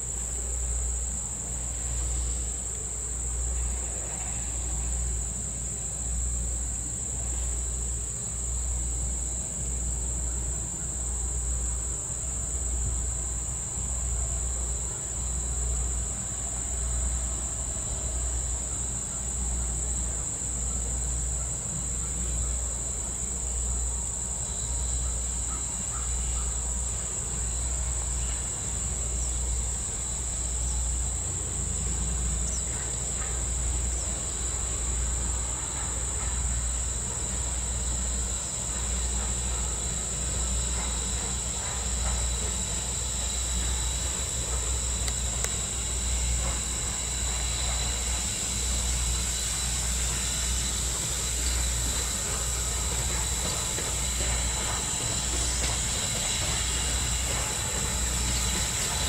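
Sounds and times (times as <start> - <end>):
insect chorus: 0.0 - 59.0.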